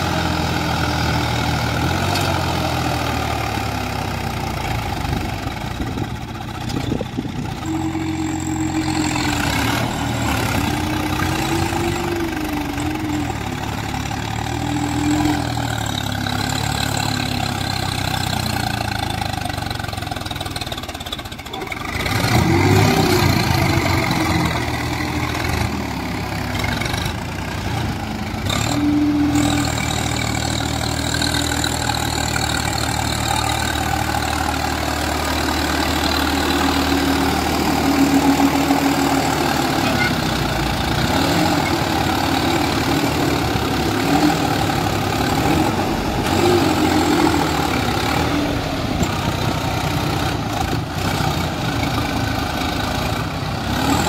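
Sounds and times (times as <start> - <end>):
diesel tractor engine revving: 0.0 - 54.0.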